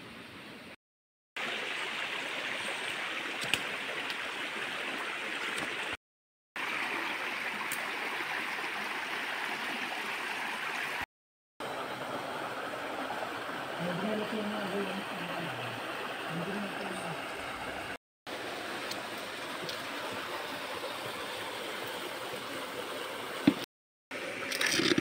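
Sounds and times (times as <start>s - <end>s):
stream water running over rocks: 1.4s - 6.0s, 6.6s - 25.0s.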